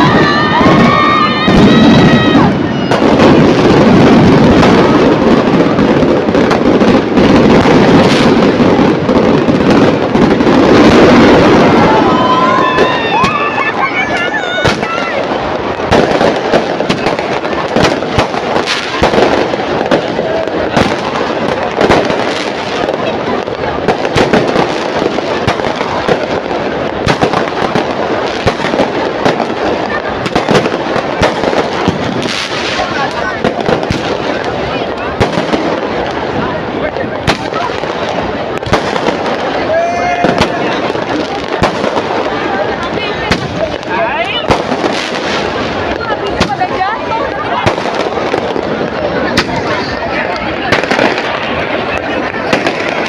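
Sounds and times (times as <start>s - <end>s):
crowd voices: 0.0s - 53.0s
fireworks booming and crackling: 0.0s - 53.0s
sharp firework bangs: 0.0s - 53.0s.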